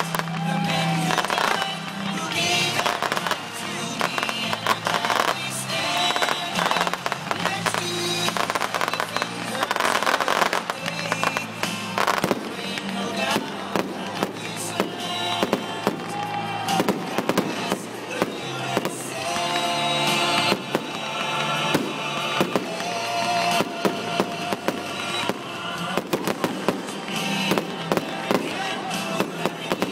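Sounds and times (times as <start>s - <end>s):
fireworks bangs and crackles: 0.0s - 29.9s
music playing: 0.0s - 29.9s.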